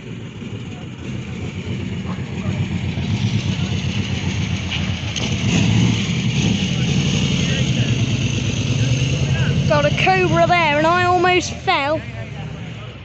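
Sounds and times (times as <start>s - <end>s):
car engine pulling away: 0.0s - 13.0s.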